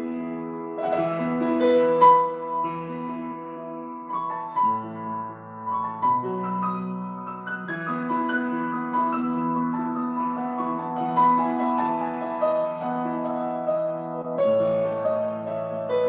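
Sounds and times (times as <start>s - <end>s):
slow solo piano chords: 0.0s - 16.0s.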